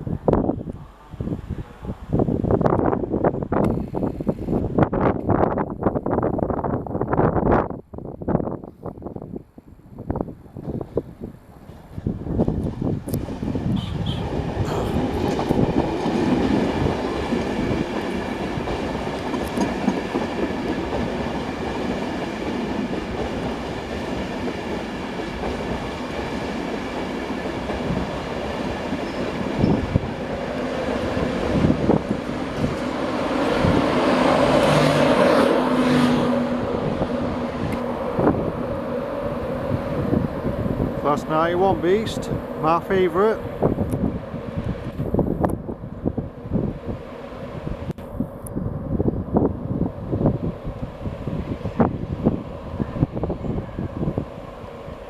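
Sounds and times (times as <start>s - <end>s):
electric train rumble with whine: 0.0s - 55.0s.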